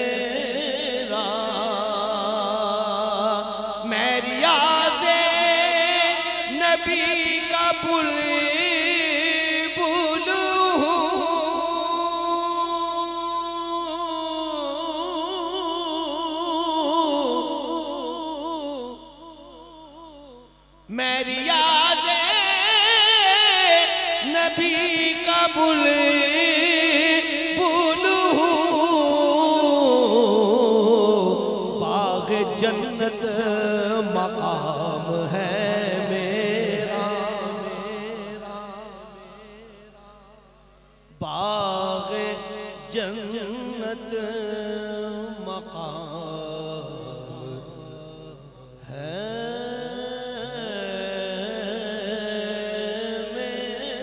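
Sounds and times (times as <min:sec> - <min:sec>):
man singing unaccompanied: 0:00.0 - 0:40.4, 0:41.1 - 0:54.0.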